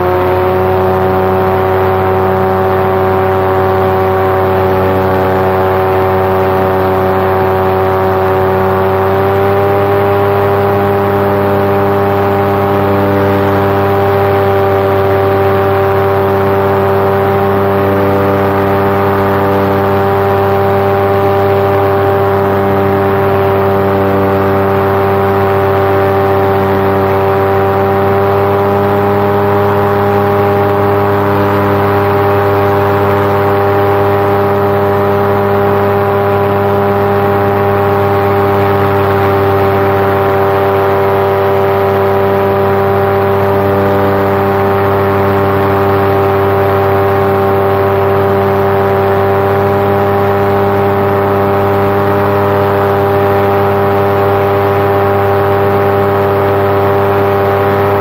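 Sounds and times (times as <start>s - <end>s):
paramotor engine drone: 0.0s - 58.0s.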